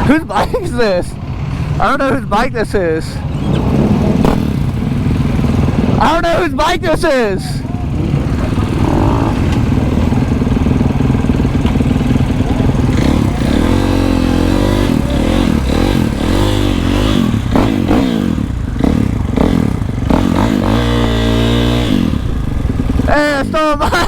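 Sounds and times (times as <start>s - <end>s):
motorcycle engine revving: 3.1s - 6.4s, 7.2s - 23.6s.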